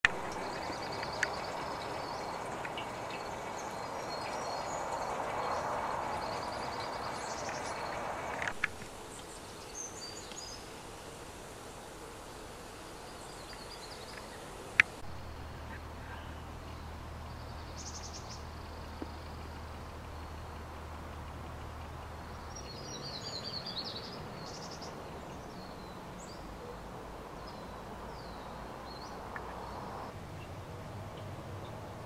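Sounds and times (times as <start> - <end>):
low steady hum: 0.0 - 32.0
steady background hiss: 0.0 - 32.0
small birds chirping: 0.1 - 32.0.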